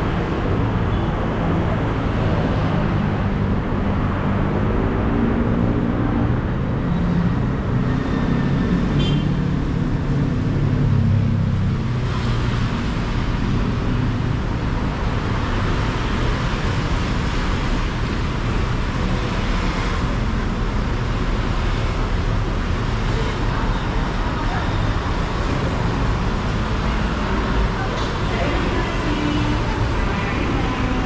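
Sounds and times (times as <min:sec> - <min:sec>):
city road traffic: 0:00.0 - 0:31.0.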